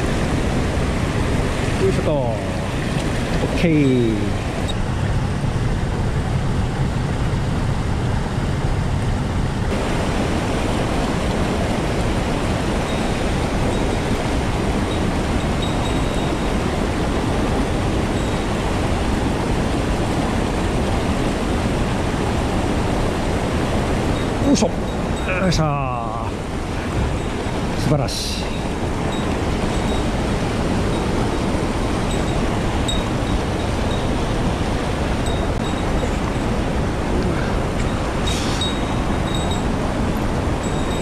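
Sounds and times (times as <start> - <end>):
stream rushing over rocks: 0.0 - 5.1, 9.6 - 41.0.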